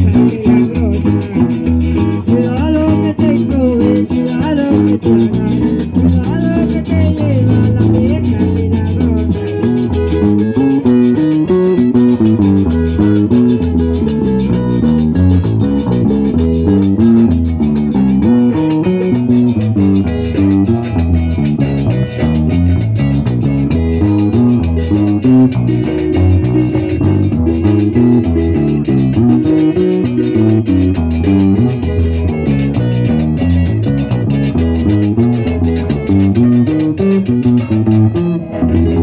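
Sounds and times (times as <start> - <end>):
bass line: 0.0 - 39.0
plucked-string melody: 0.0 - 39.0
strummed guitar: 0.0 - 39.0.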